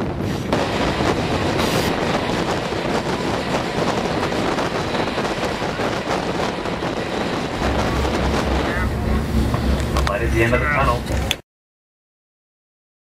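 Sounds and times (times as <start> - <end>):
train rushing through tunnel: 0.0 - 11.4
wind on microphone: 0.0 - 11.4.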